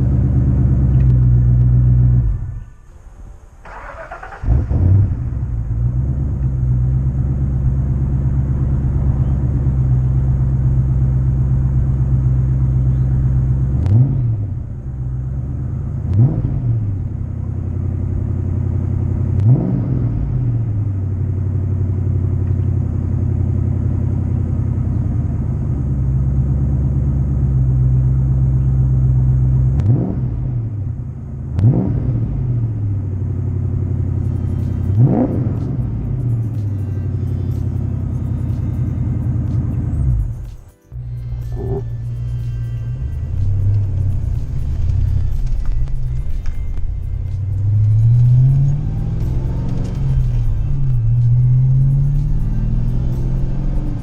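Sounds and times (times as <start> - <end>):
car engine idling with throttle blips: 0.0 - 54.0.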